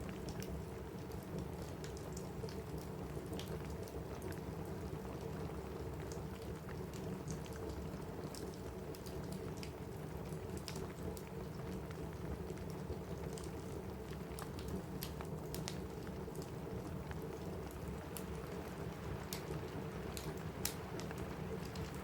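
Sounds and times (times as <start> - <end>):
rain on a roof: 0.0 - 22.0.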